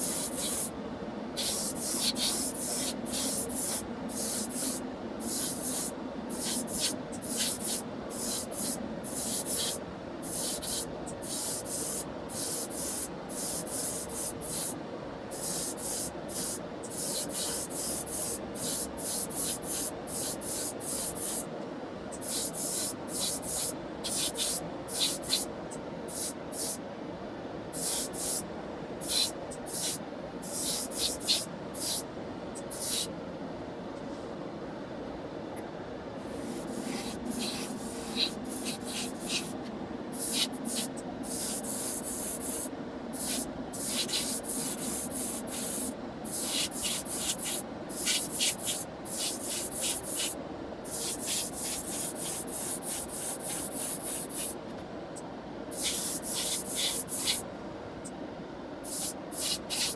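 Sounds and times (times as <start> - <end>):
spray paint hissing bursts: 0.0 - 0.7, 1.4 - 21.5, 22.2 - 25.5, 26.1 - 26.8, 27.8 - 28.4, 29.0 - 32.0, 32.6 - 33.1, 36.2 - 54.6, 55.7 - 57.4, 58.8 - 59.9.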